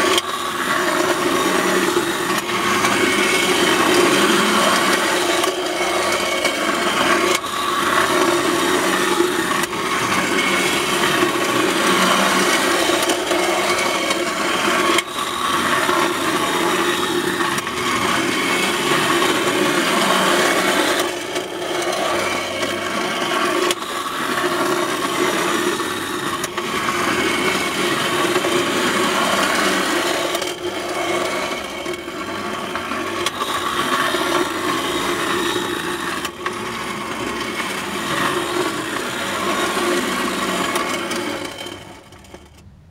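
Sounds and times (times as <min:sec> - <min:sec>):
toy train rattling over tin track: 0:00.0 - 0:42.6
toy clicks: 0:00.0 - 0:42.8
clockwork gears whirring: 0:00.0 - 0:42.9.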